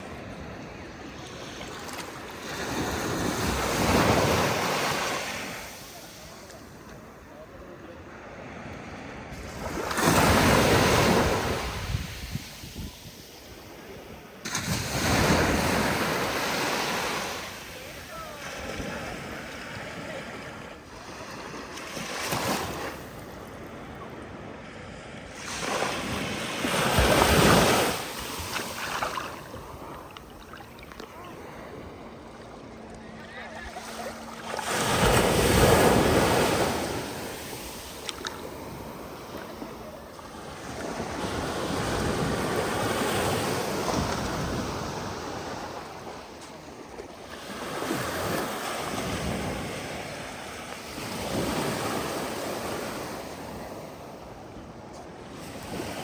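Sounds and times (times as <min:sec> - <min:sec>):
ocean waves breaking: 0:00.0 - 0:07.2, 0:08.0 - 0:56.0.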